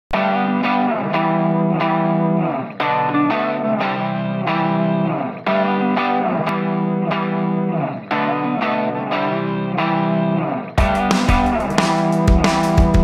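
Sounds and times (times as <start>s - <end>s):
guitar chords through effects: 0.1s - 13.0s.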